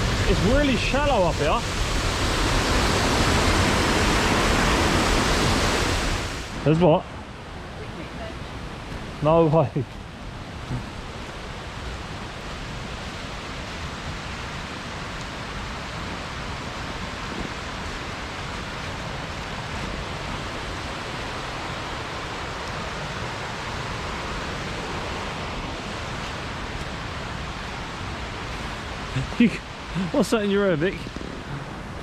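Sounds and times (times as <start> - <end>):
water rushing over streambed: 0.0 - 32.0.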